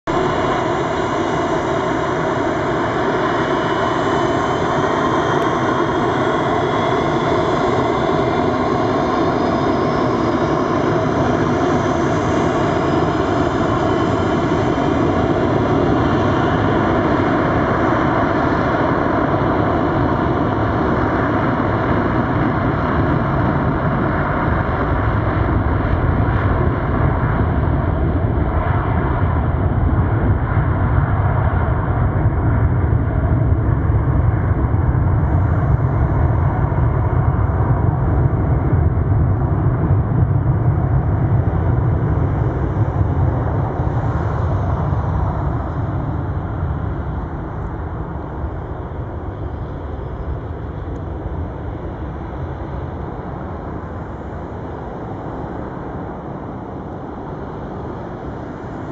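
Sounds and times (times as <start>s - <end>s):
jet engines running loud: 0.1s - 58.9s.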